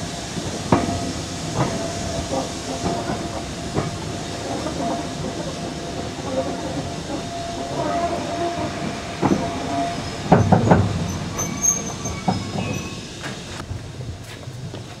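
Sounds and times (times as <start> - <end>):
railway carriages clanking: 0.0 - 15.0
thin squeal of train wheels: 0.8 - 13.6.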